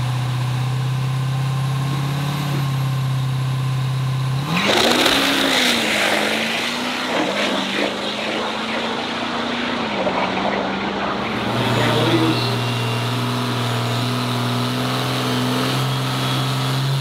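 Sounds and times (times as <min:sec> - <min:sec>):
diesel truck engine revving: 0:01.6 - 0:17.0.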